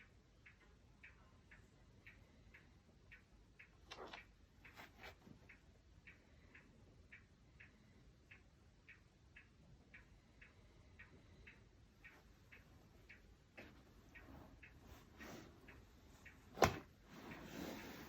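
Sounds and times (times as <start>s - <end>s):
faint regular ticking: 0.0s - 18.0s.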